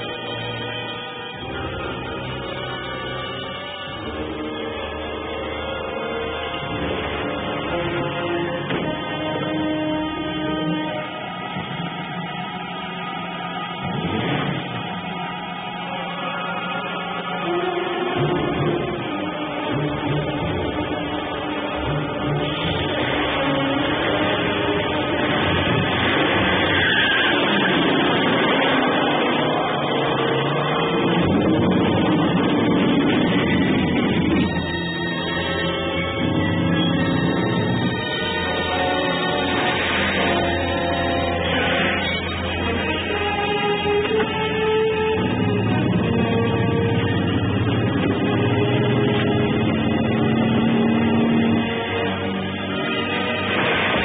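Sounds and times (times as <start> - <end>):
music: 0.0 - 54.0
car engines revving: 1.3 - 54.0.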